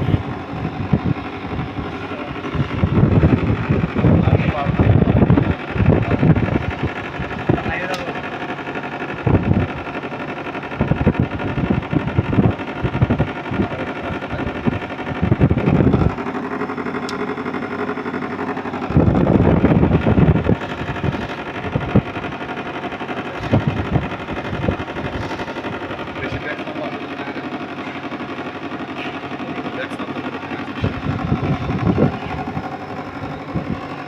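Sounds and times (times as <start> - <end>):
low rumbling bursts: 0.0 - 8.5, 10.7 - 34.0.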